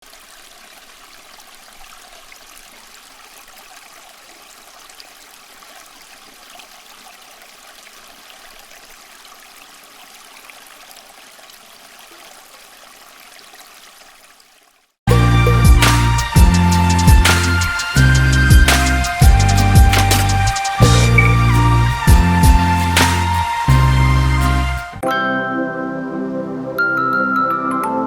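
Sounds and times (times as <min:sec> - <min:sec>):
fountain water trickling: 0:00.0 - 0:24.8.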